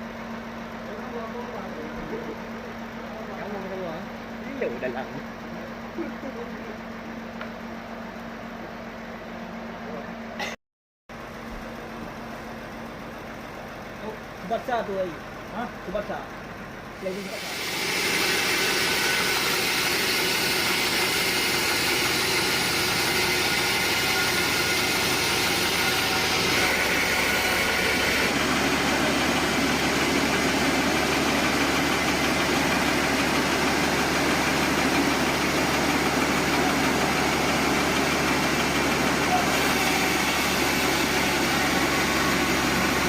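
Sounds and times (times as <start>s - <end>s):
sawmill machinery running: 0.0s - 10.4s, 11.2s - 43.0s.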